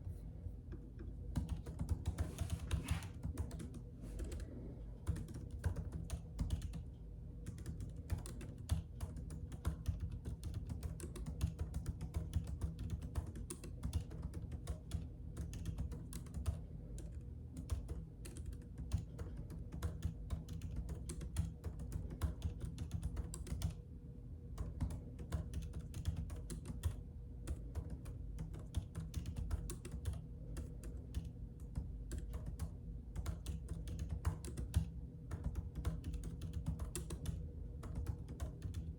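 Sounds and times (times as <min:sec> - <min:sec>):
low steady hum: 0:00.0 - 0:38.9
keyboard typing clicks: 0:00.7 - 0:23.8, 0:24.5 - 0:38.9.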